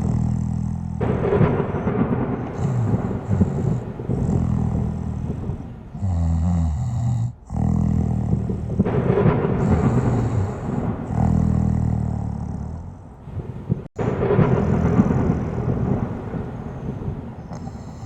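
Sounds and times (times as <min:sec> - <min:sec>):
person snoring: 0:00.0 - 0:13.1, 0:14.0 - 0:18.0.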